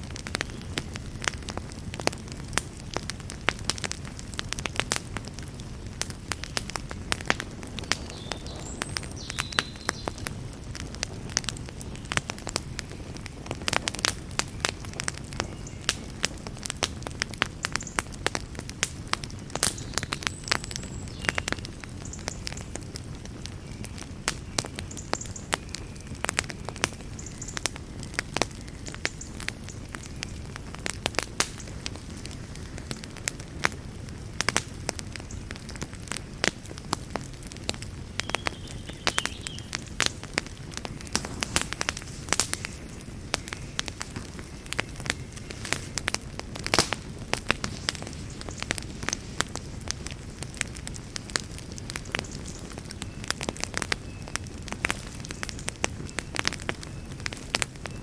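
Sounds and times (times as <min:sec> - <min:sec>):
campfire flames rumbling: 0:00.0 - 0:58.0
fire popping and crackling: 0:00.0 - 0:58.0.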